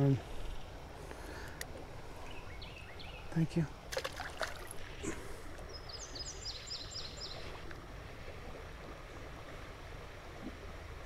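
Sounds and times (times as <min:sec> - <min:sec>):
creek water flowing over gravel: 0:00.0 - 0:11.0.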